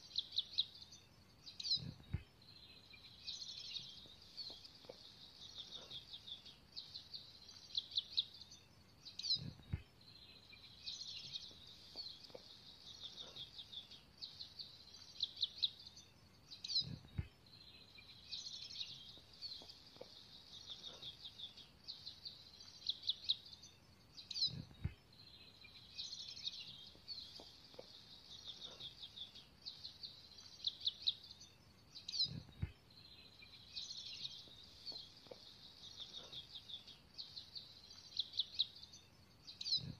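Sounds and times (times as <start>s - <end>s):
birdsong trills and chirps: 0.0s - 39.9s.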